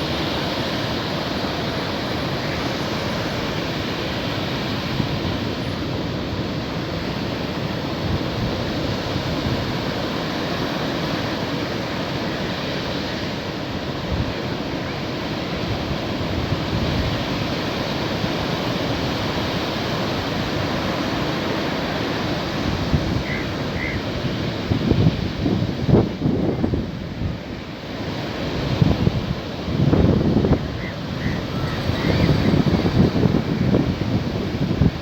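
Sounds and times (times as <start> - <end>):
waves breaking on beach: 0.0 - 35.0
wind on microphone: 0.0 - 35.0.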